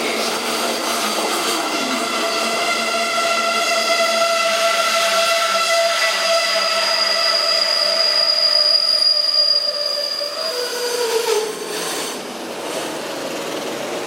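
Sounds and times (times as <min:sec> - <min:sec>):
train wheels squealing: 0:00.0 - 0:13.8
train wagons rumbling on rails: 0:00.0 - 0:14.0.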